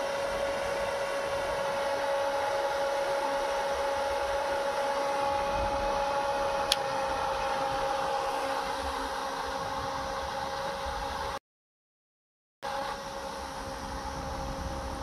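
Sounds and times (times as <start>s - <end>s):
electric fan motor whining: 0.0s - 11.4s, 12.6s - 15.0s.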